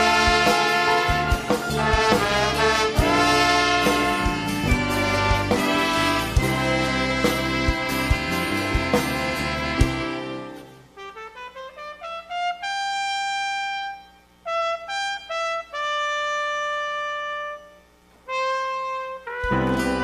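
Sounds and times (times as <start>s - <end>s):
solo brass melody: 0.0s - 20.0s.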